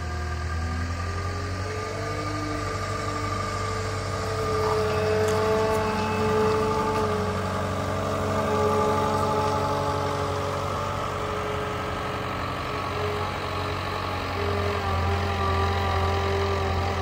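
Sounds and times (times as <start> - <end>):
diesel loader engine running: 0.0 - 17.0.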